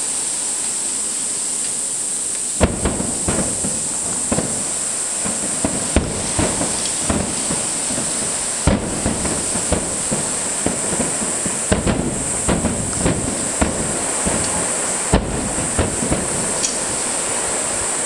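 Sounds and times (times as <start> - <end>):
high-pitched hiss: 0.0 - 18.0
fireworks bangs: 2.6 - 18.0.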